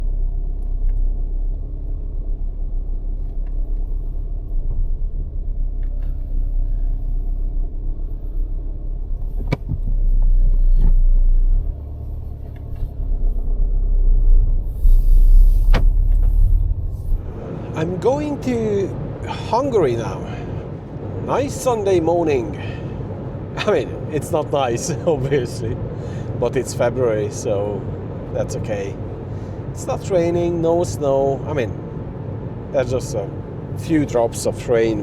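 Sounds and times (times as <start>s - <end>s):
road and engine rumble in car: 0.0s - 35.0s.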